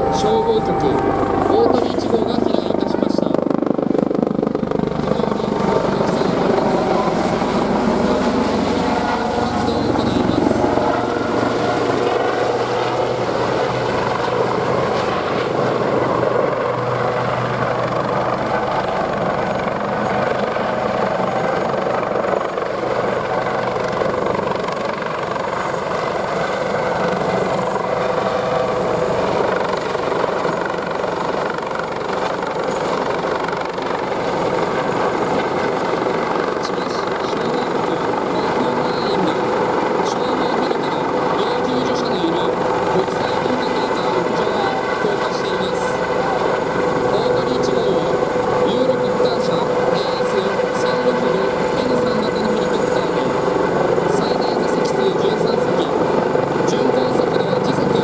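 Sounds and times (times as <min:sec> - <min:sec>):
helicopter flying overhead: 0:00.0 - 0:58.0.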